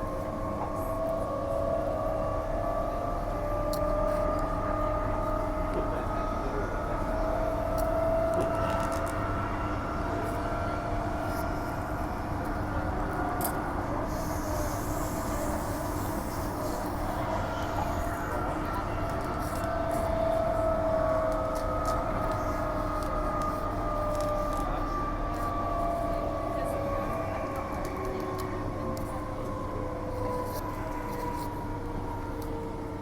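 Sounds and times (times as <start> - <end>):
wheel and rail rumble: 0.0 - 33.0.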